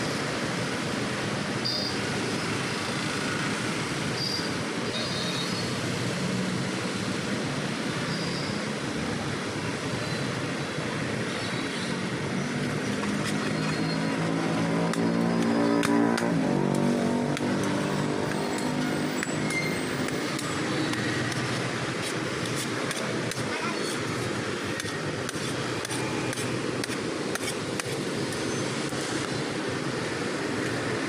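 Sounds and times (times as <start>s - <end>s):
street background noise: 0.0s - 31.0s.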